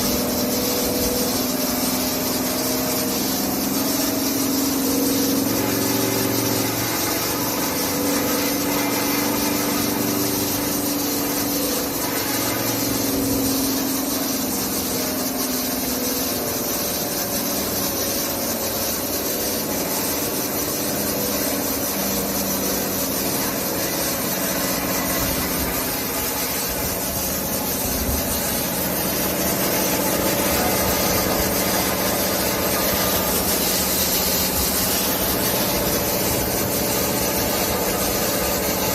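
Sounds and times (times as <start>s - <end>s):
belt sander loud hiss: 0.0s - 38.9s.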